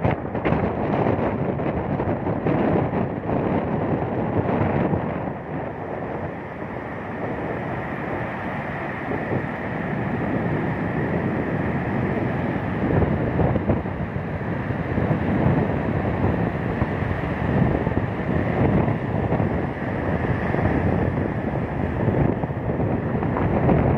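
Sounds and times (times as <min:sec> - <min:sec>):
sea surf breaking: 0:00.0 - 0:23.9
wind buffeting microphone: 0:00.0 - 0:23.9.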